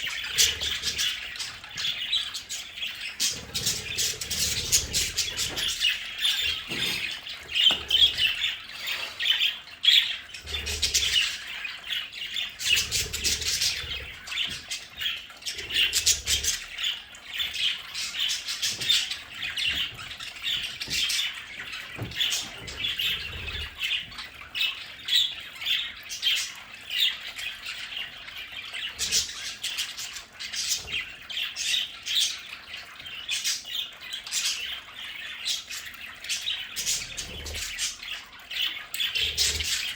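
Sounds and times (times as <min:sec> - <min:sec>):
budgies chattering and squawking: 0:00.0 - 0:39.9.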